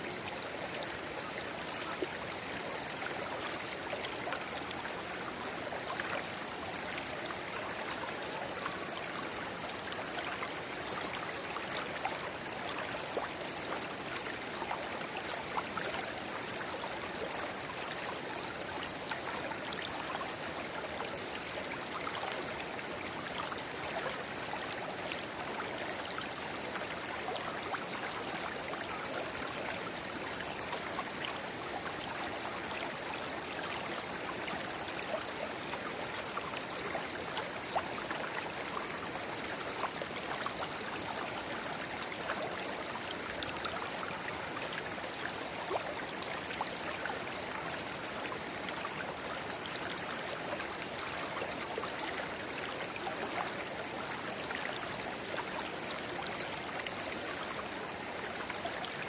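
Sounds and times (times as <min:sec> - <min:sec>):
river water babbling: 0:00.0 - 0:59.0
stream pouring into river: 0:00.0 - 0:59.0.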